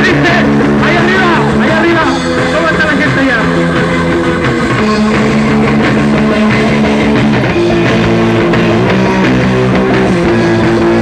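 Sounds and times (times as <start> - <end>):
electric guitar chords: 0.0 - 11.0
live rock band playing: 0.0 - 11.0.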